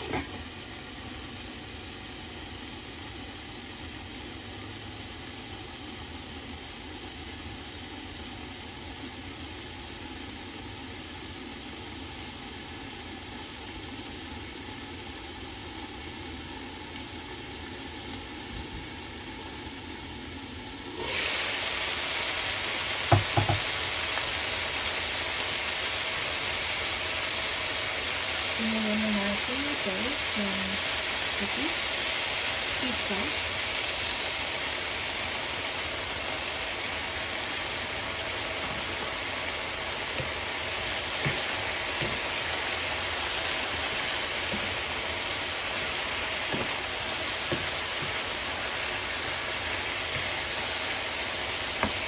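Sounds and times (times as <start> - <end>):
vegetables sizzling in a frying pan: 0.0 - 52.0.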